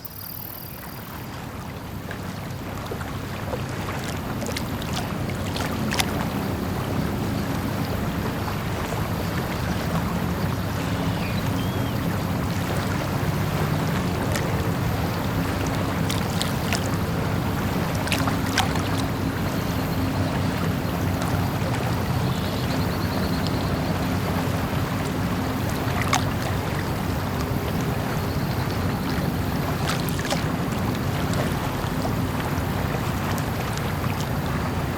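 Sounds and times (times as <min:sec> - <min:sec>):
small sharp ticks and splashes: 0:00.0 - 0:34.9
water lapping: 0:00.5 - 0:34.9
steady low rumble: 0:02.4 - 0:34.9.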